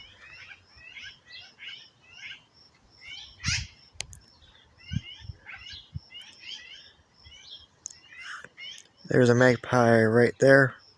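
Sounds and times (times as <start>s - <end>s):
magpies calling: 0.0s - 10.7s.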